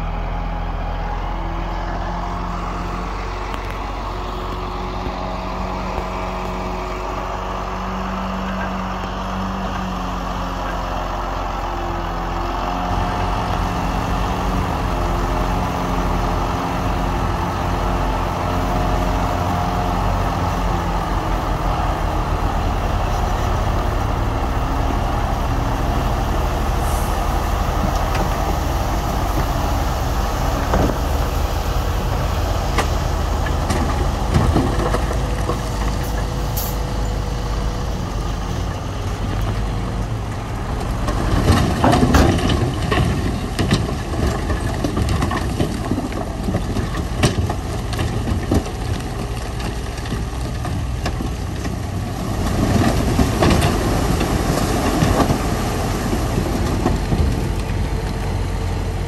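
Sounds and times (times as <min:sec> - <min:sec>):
diesel engine of heavy machinery: 0:00.0 - 0:59.0.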